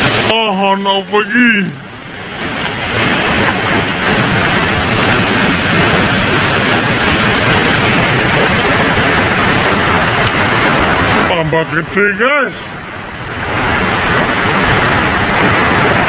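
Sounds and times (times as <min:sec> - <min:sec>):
heavy rain and wind on a car: 0:00.0 - 0:16.0.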